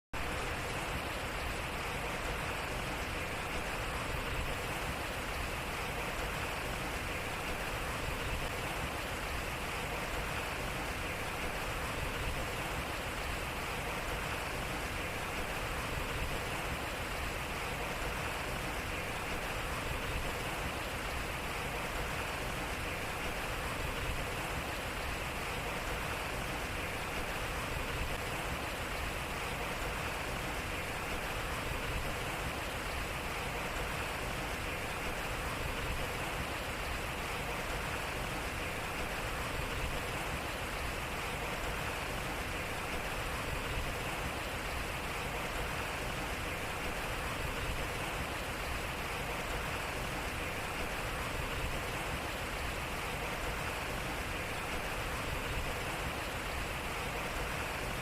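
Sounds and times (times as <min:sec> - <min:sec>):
water rushing and splashing: 0:00.2 - 0:58.0.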